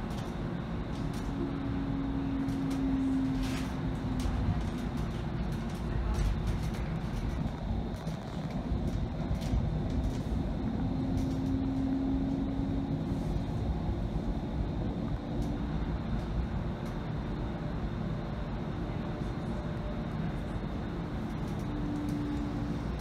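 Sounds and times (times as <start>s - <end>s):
humming drive tone: 0.0s - 23.0s
train wheels rumbling on rails: 0.0s - 23.0s.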